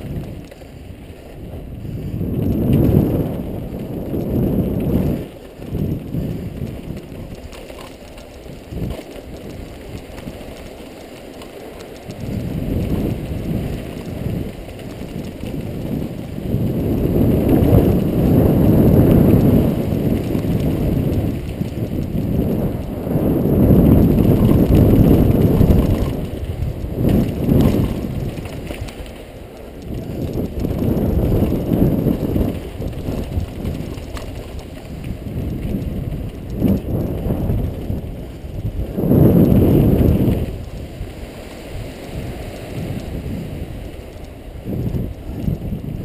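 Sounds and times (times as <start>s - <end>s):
bike tyres rumbling on dirt: 0.0s - 46.0s
wind buffeting microphone: 0.0s - 46.0s.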